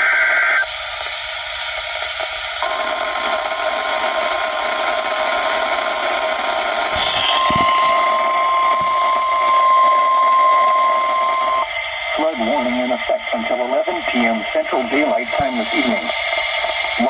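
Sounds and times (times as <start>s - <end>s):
radio static hiss: 0.0s - 17.0s
steady alarm tone: 1.7s - 17.0s.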